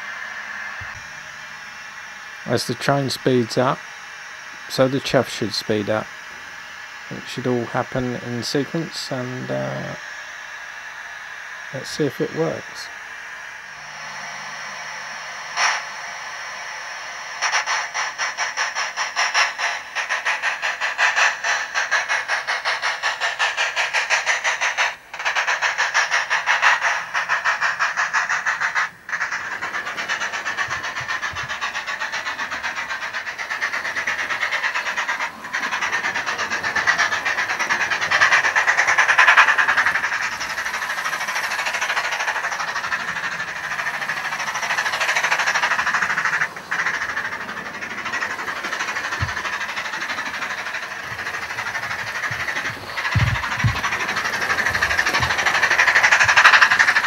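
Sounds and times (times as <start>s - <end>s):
tinny steam chuffs from speaker: 0.0s - 57.0s.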